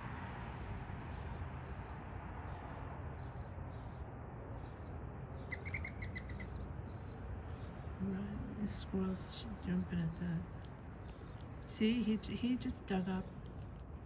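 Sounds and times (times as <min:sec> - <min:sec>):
birds chirping: 0:01.0 - 0:14.0.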